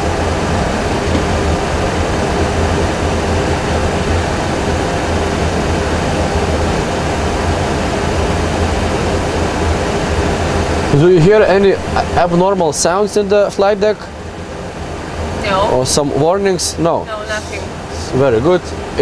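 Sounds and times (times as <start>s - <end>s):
low hum: 0.0s - 19.0s
rush of engine and airflow: 0.0s - 19.0s.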